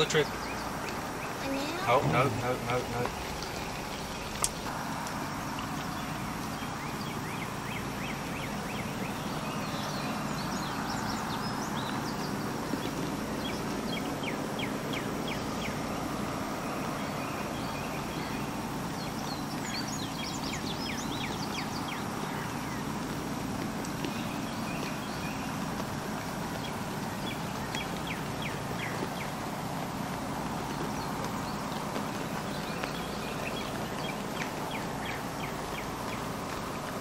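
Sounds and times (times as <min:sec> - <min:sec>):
bird chirping: 0:00.0 - 0:37.0
outdoor background noise: 0:00.0 - 0:37.0.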